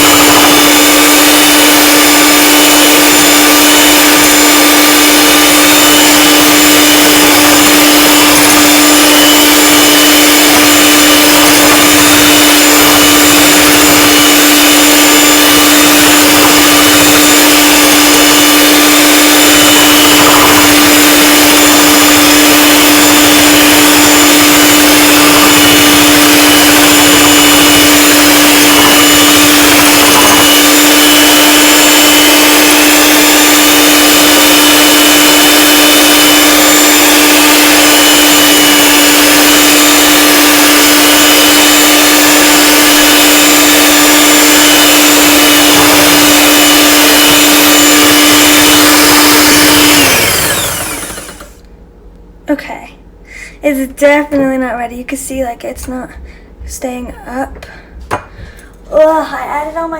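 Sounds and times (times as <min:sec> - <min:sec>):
electric mixer humming: 0:00.0 - 0:51.8, 0:55.2 - 0:59.2.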